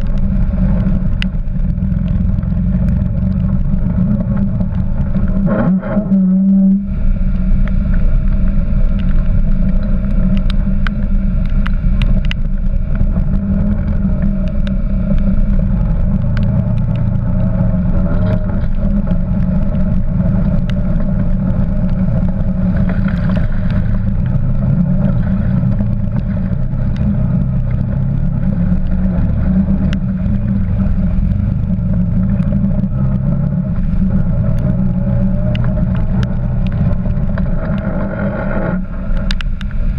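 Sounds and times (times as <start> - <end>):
quad bike engine running: 0.0 - 39.9
water splashing: 0.0 - 39.9
sharp clicks and knocks: 7.6 - 39.8.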